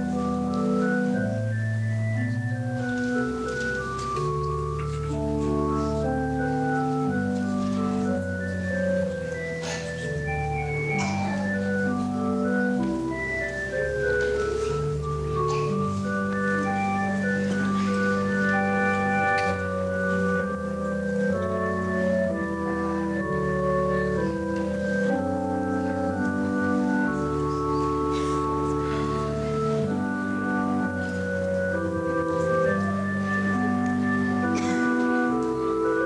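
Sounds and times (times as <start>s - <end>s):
organ playing slow chords: 0.0s - 36.0s.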